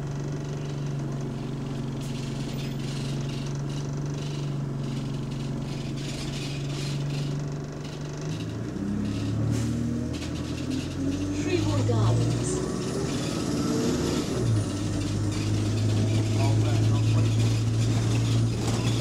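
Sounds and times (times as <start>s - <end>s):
bus engine running: 0.0s - 19.0s
loose exhaust rattling: 0.0s - 19.0s.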